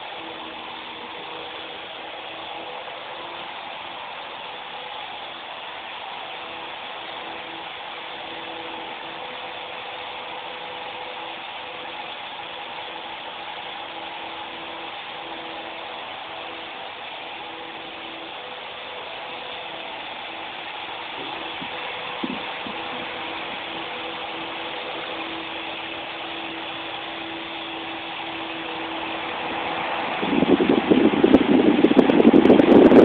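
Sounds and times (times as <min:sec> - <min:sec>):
toy helicopter rotor whirring: 0:00.0 - 0:33.0.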